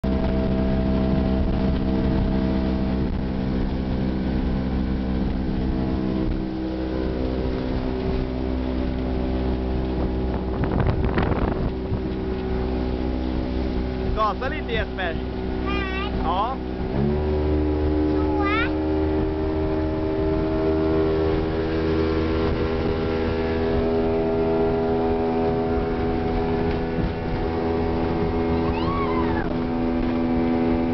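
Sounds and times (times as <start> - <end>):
outboard motor running: 0.0 - 30.9
rushing water and wind: 0.0 - 30.9.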